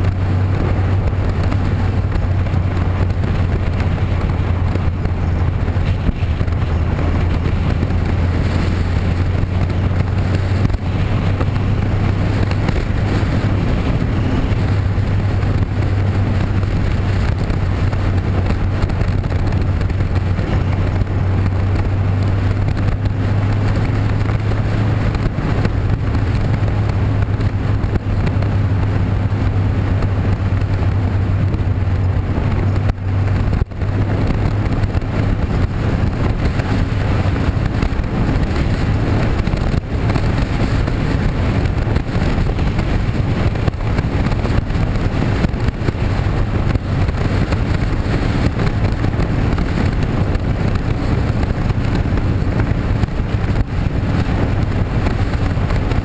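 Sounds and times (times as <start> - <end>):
road and wind noise: 0.0 - 56.0
vehicle engine drone: 0.0 - 56.0.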